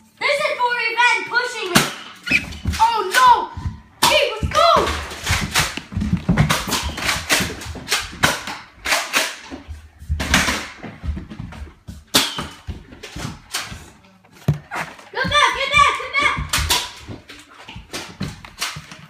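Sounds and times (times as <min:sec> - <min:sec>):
feet pounding on wooden floor: 0:02.4 - 0:08.8, 0:09.5 - 0:19.0.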